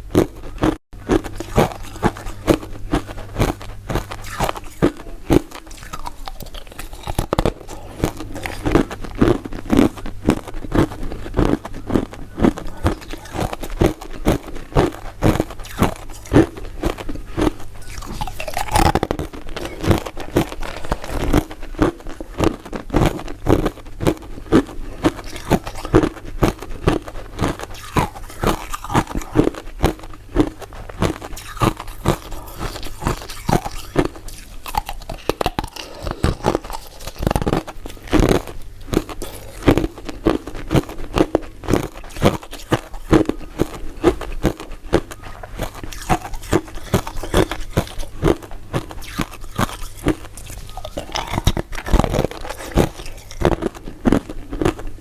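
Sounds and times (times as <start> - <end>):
crunching and chewing ice dessert: 0.0 - 55.0.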